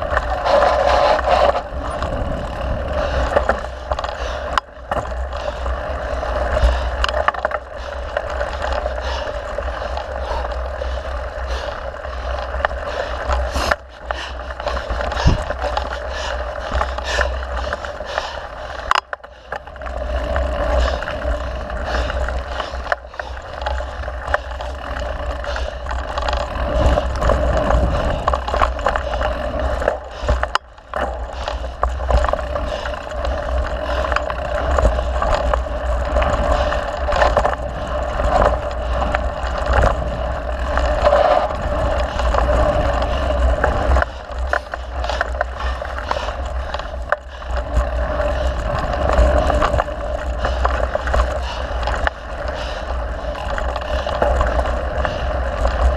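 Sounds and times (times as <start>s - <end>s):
bike knocks and rattles: 0.0s - 55.9s
bike tyres rumbling on dirt: 0.0s - 55.9s.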